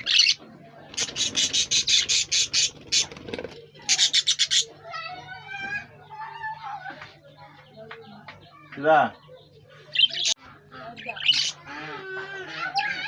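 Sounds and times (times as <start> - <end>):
harsh scratchy bird calls: 0.0 - 5.9, 8.4 - 13.0.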